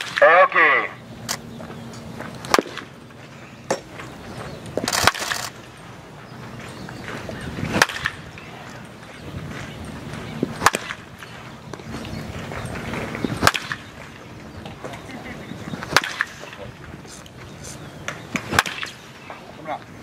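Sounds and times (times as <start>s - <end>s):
baseball bat hitting balls: 0.0s - 15.1s, 15.7s - 19.9s.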